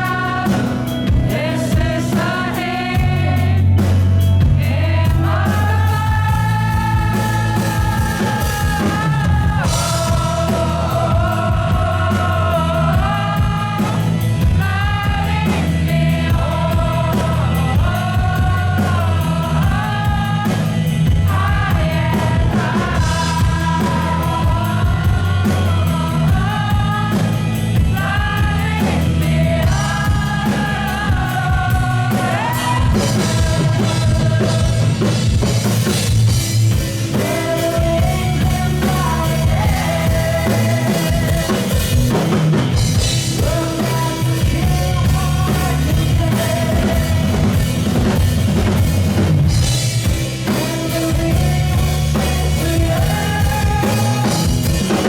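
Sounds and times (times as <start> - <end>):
band playing slow song: 0.0 - 55.0
voices singing long held notes: 0.0 - 55.0.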